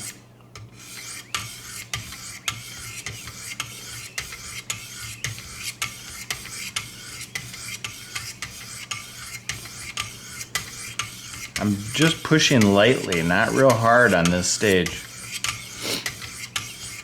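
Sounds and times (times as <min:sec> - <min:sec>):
sharpening stone rasping on blade: 0:00.8 - 0:17.0.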